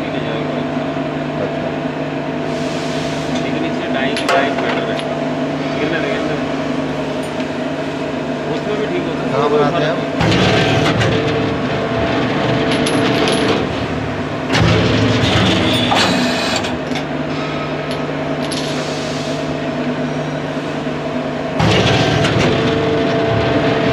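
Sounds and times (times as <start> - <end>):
hydraulic press humming: 1.5 - 23.9.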